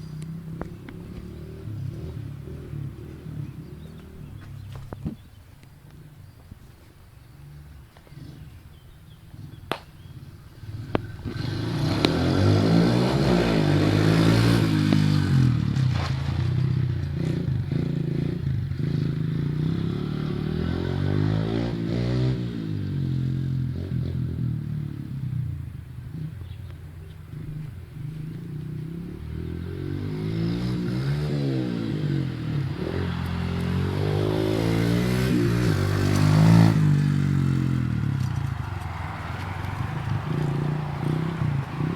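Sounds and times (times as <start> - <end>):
pit bike engine revving: 0.0 - 5.3, 7.4 - 41.9.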